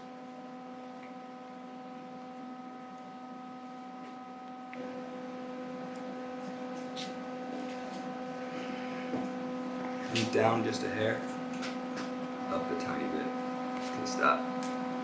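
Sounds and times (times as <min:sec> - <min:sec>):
steady hum of held tones: 0:00.0 - 0:15.0.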